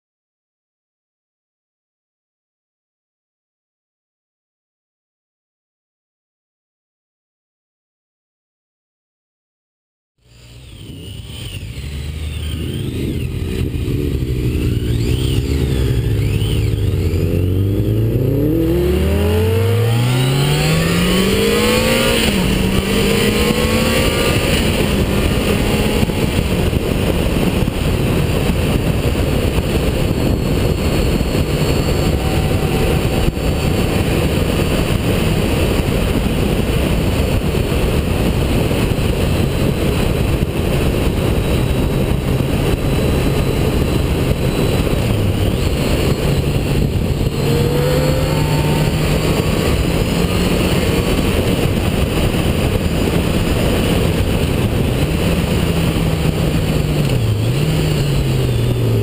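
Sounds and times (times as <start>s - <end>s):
motorcycle engine accelerating: 10.2s - 59.0s
wind rushing on microphone: 10.5s - 59.0s.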